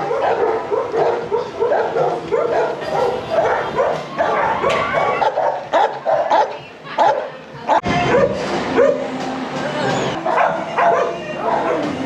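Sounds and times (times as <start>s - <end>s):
dogs barking and yipping: 0.0s - 9.1s, 10.1s - 12.0s.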